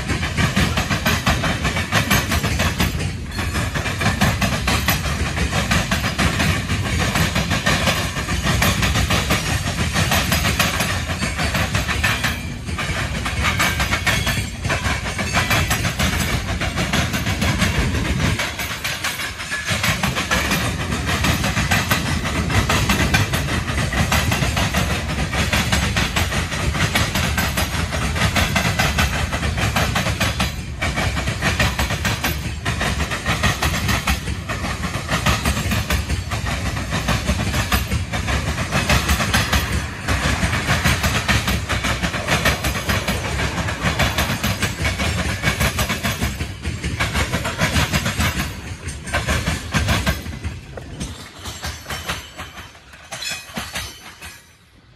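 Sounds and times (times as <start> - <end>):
train wheels rumbling and rattling: 0.0 - 54.9.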